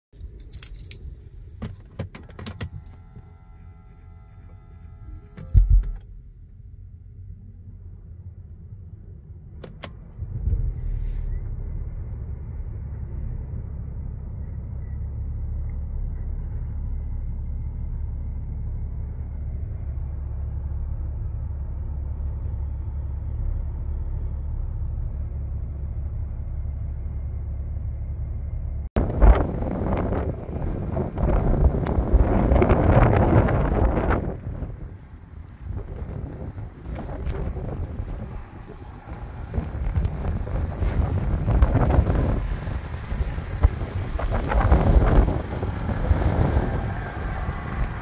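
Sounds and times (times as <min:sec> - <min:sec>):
diesel engine starting and idling: 0:00.4 - 0:48.0.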